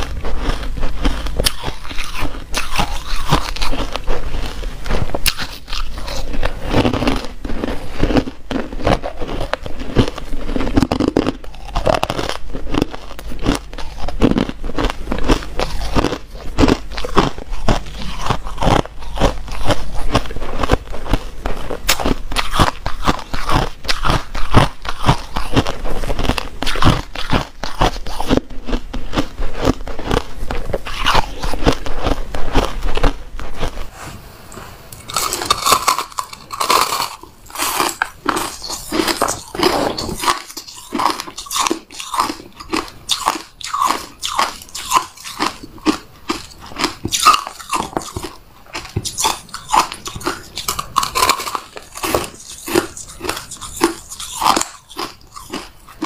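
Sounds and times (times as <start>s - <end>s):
biting and chewing ice: 0.0s - 33.9s, 34.9s - 56.0s.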